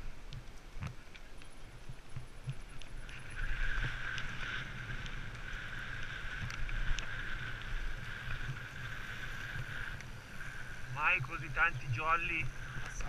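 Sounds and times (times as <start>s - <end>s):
bike tyre rumble: 0.0s - 13.0s
gravel clicks: 0.0s - 13.0s
wind on microphone: 0.8s - 13.0s.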